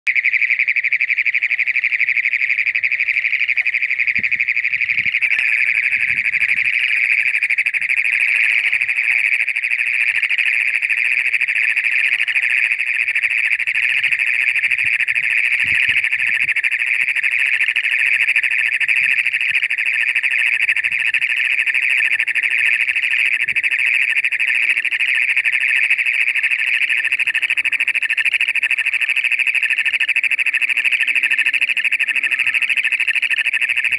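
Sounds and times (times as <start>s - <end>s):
toad trilling call: 0.1s - 33.9s.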